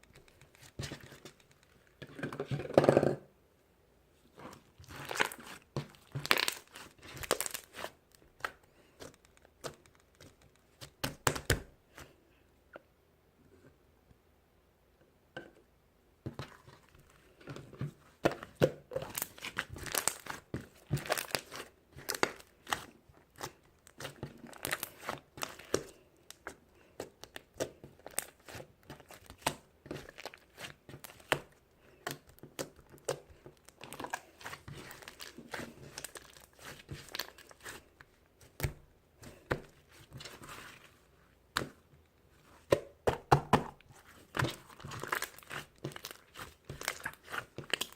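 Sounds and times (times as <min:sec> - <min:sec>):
crinkling and rustling: 0:00.0 - 0:02.8, 0:04.2 - 0:11.3, 0:16.2 - 0:42.9, 0:43.6 - 0:47.9.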